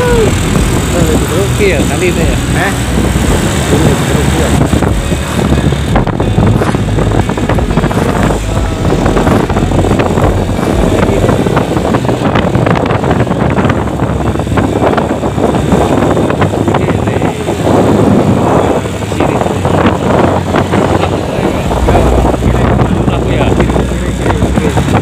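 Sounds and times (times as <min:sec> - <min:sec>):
motorcycle engine: 0:00.0 - 0:25.0
street traffic: 0:00.0 - 0:25.0
wind buffeting microphone: 0:00.0 - 0:25.0.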